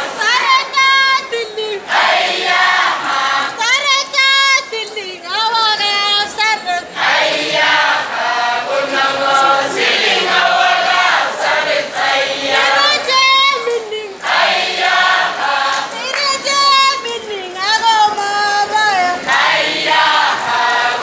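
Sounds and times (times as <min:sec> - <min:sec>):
group singing in chorus: 0:01.3 - 0:03.8, 0:06.2 - 0:21.0.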